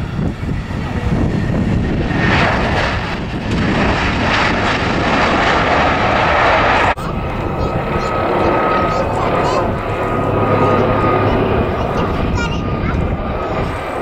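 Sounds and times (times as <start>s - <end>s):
jet engine noise: 0.0s - 14.0s.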